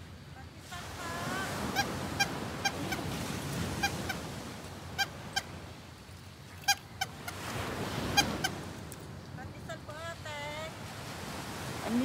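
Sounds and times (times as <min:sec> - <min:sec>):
surf washing softly: 0:00.0 - 0:12.0.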